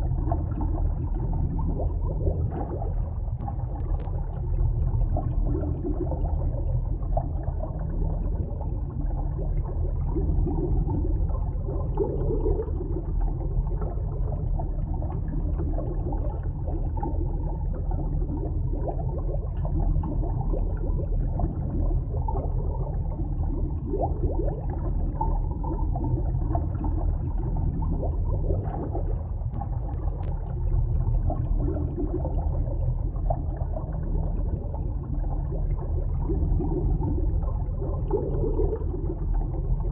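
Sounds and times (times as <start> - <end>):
underwater rumble: 0.0 - 39.9
water gurgling: 0.0 - 39.9.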